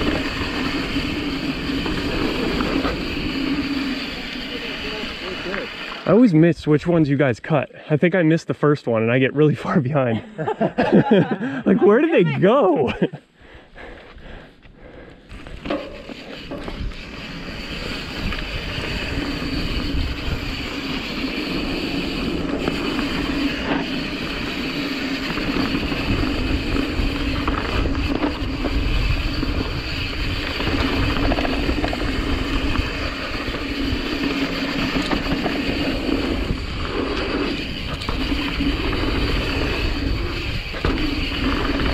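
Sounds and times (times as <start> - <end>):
bike tyres rolling over dirt: 0.0 - 7.0, 13.8 - 41.9.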